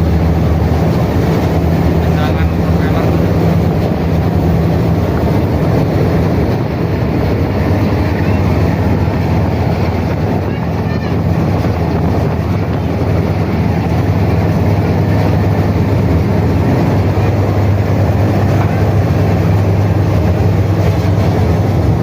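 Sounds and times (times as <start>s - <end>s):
ferry diesel engines droning: 0.0s - 22.0s
propeller wash rushing: 0.0s - 22.0s.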